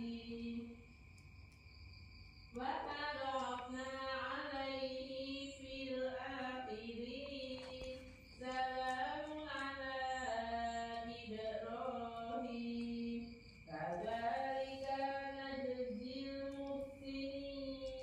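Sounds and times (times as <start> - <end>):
person singing slow chant-like melody: 0.0 - 0.9, 2.5 - 18.0.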